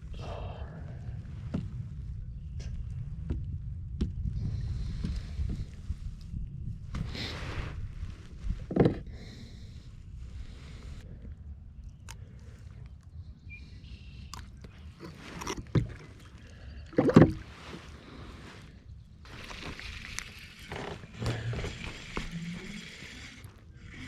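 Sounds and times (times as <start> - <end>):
water sloshing against hull: 0.9 - 24.0.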